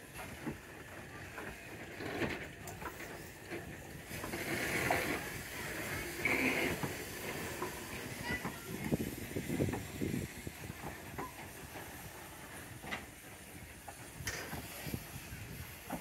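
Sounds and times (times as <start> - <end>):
soft steam hiss: 0.0 - 16.0
steam locomotive simmering: 0.0 - 16.0.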